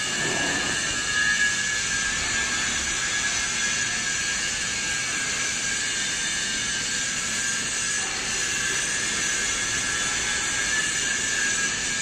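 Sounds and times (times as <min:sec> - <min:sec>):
hydraulic pump hissing and whining: 0:00.0 - 0:12.0.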